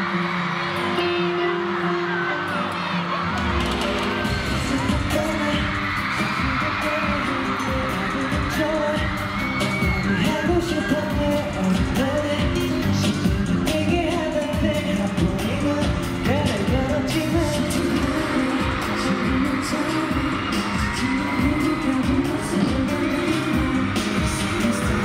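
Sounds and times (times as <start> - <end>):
pop backing track with beat: 3.3 - 25.0
man singing: 4.1 - 25.0.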